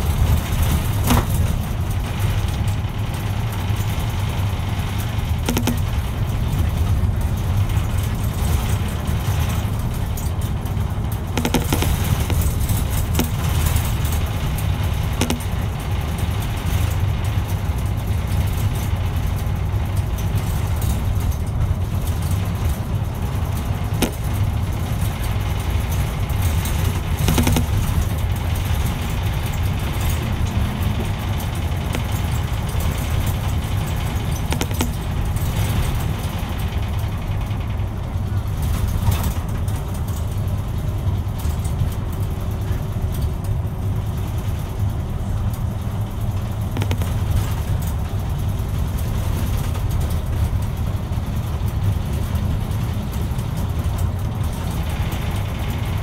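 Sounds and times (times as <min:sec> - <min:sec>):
bus engine rumble: 0:00.0 - 0:56.0
rattles and knocks: 0:00.0 - 0:56.0.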